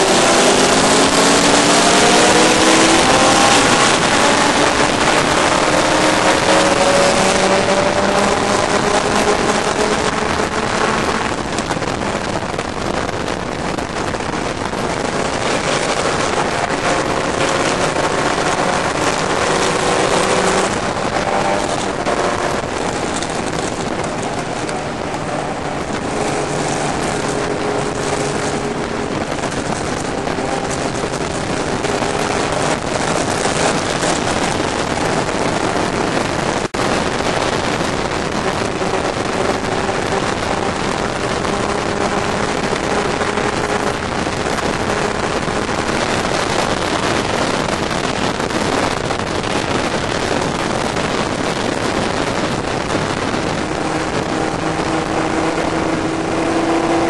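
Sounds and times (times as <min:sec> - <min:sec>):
race car engine running hard: 0:00.0 - 0:57.0
wind rush: 0:00.0 - 0:57.0.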